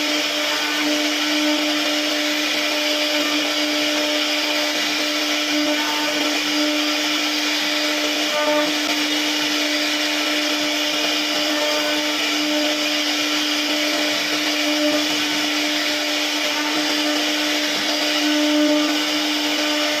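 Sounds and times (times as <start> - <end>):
cnc router machining wood: 0.0 - 20.0.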